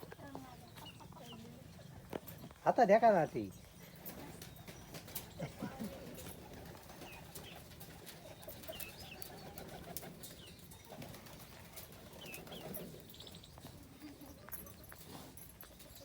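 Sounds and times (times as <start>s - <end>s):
background of bird calls: 0.0s - 14.9s
birds chirping: 0.0s - 16.0s.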